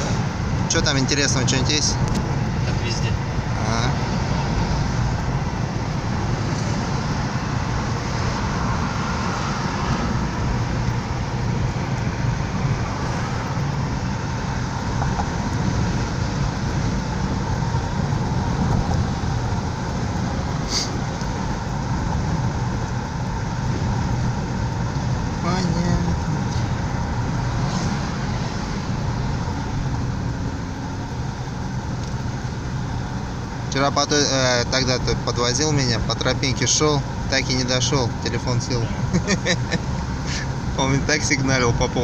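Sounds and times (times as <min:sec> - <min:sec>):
car engine and tyre noise: 0:00.0 - 0:42.0.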